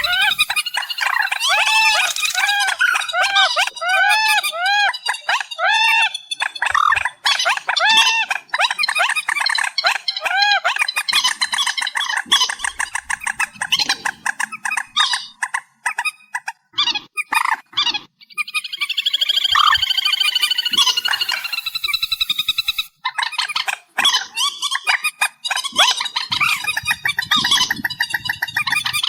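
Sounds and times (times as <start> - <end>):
bird squawking calls: 0.0 - 16.2, 18.3 - 29.0.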